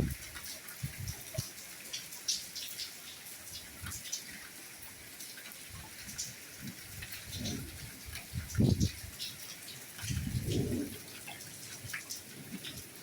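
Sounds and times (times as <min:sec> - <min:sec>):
raindrops ticking: 0:00.0 - 0:13.0
soft rain falling: 0:00.0 - 0:13.0.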